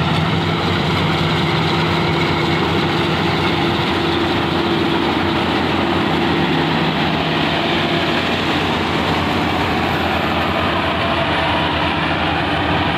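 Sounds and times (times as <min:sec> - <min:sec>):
combine harvester diesel engine: 0:00.0 - 0:12.9
threshing machinery running: 0:00.0 - 0:12.9.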